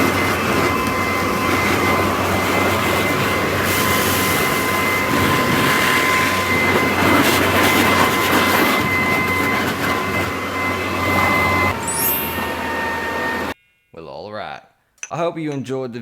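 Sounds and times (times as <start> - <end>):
backpack blower running: 0.0 - 13.6.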